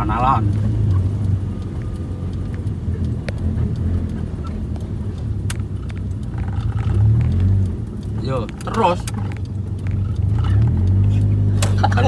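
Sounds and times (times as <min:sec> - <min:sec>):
car engine humming: 0:00.0 - 0:12.0
faint clicks: 0:00.3 - 0:12.0.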